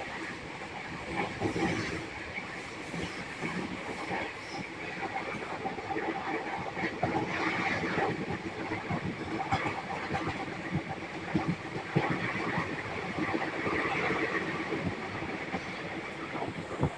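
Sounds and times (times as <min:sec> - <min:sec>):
train wheels rumbling on rails: 0:00.0 - 0:16.9
train wheels clacking: 0:01.1 - 0:16.9.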